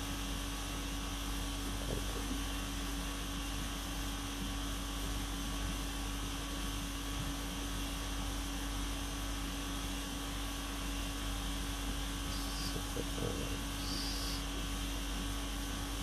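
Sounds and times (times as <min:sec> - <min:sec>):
machine hum and hiss: 0:00.0 - 0:16.0.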